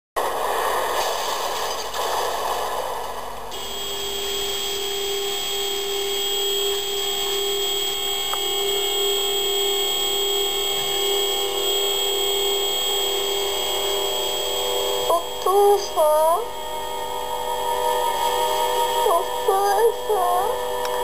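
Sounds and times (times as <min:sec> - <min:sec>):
steady drone: 0:02.0 - 0:21.0
high ringing tone: 0:03.5 - 0:21.0.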